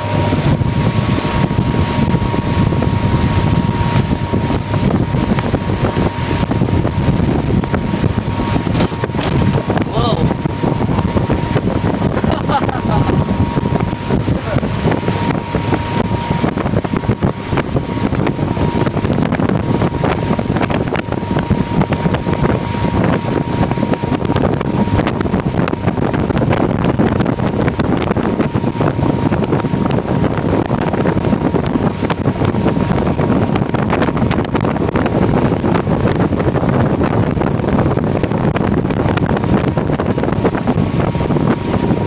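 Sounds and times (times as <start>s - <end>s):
motorboat engine: 0.0s - 42.0s
rushing boat wake: 0.0s - 42.0s
wind buffeting microphone: 0.0s - 42.0s.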